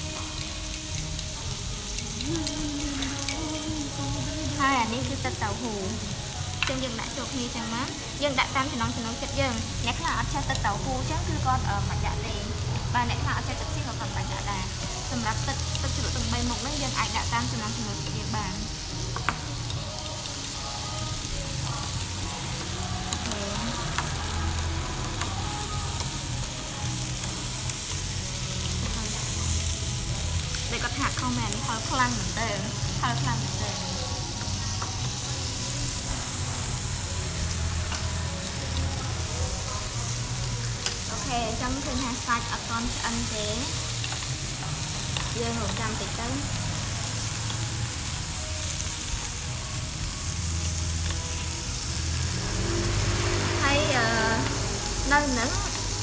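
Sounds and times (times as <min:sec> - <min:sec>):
food sizzling on a grill: 0:00.0 - 0:56.0.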